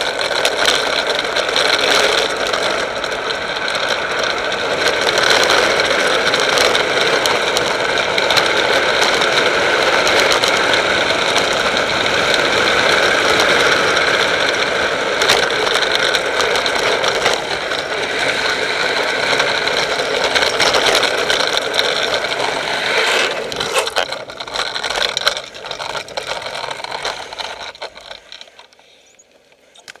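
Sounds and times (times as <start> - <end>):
rattling: 0.0 - 28.8
vehicle engine and road noise: 0.0 - 30.0.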